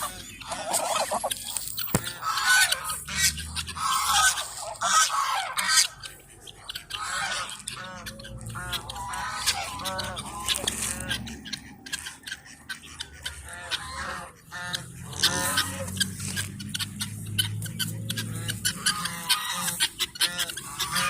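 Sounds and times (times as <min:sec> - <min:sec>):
farmyard fowl: 0:00.0 - 0:21.0
geese honking: 0:00.0 - 0:21.0.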